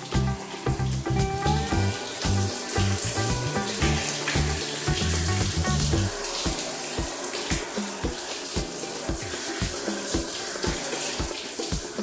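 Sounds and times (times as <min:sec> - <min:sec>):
background music with low bass: 0:00.0 - 0:12.0
shower water splashing on plastic: 0:00.0 - 0:12.0.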